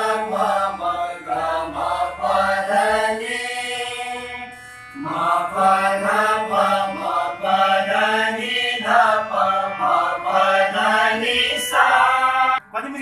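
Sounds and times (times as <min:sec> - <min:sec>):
group singing in unison: 0:00.0 - 0:12.6
harmonium: 0:00.0 - 0:13.0.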